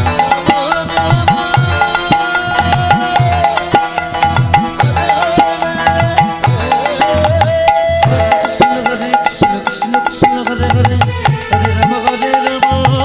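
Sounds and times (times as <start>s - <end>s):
hand drum steady rhythm: 0.0s - 13.0s
held bending melody line: 0.0s - 13.0s.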